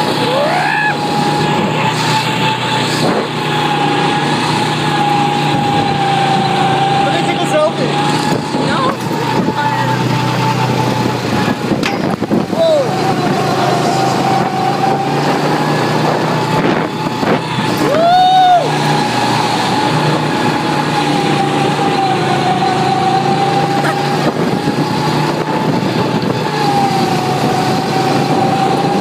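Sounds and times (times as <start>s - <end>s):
go-kart engine running: 0.0s - 29.0s.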